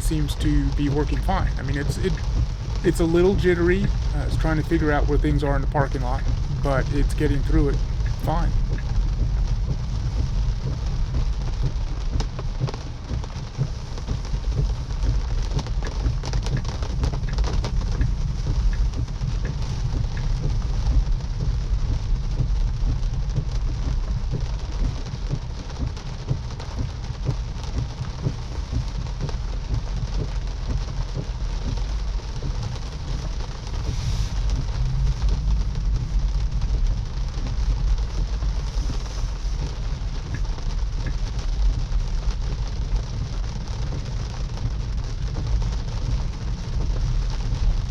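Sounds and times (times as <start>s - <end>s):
low car rumble: 0.0s - 47.9s
rain on a car: 0.0s - 47.9s.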